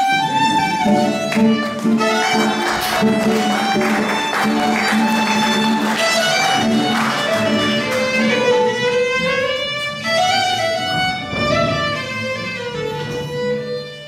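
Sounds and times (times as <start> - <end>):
violin-like lead melody: 0.0 - 14.0.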